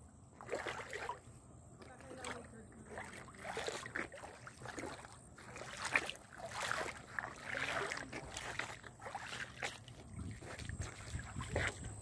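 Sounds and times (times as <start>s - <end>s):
stream flowing over stones: 1.9s - 12.0s.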